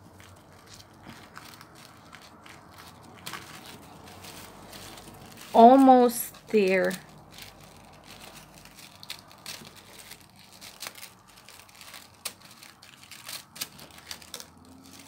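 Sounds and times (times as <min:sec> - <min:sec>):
scissors snipping paper: 0:00.0 - 0:15.0
tissue paper crinkling: 0:00.0 - 0:15.0.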